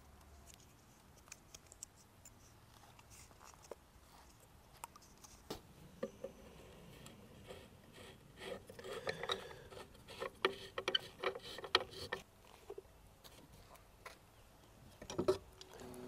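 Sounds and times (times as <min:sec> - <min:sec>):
plastic fitting rubbing and clicking: 0:00.3 - 0:06.4, 0:07.0 - 0:14.2.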